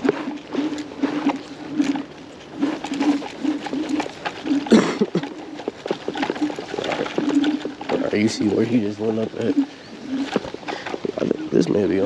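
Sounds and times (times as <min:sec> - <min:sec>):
tyres and frame rattling: 0:00.0 - 0:12.0.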